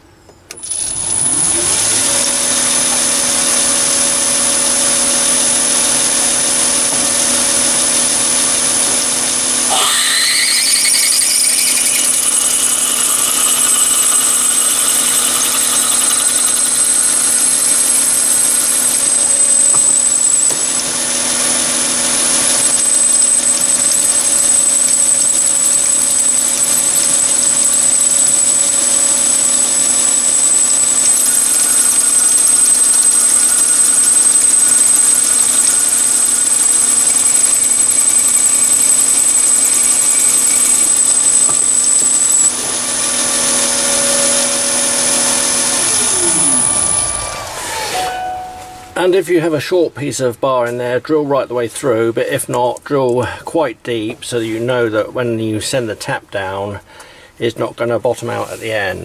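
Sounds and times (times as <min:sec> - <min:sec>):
lathe motor hum: 0:00.5 - 0:48.0
drill whine drilling into brass: 0:00.5 - 0:48.1.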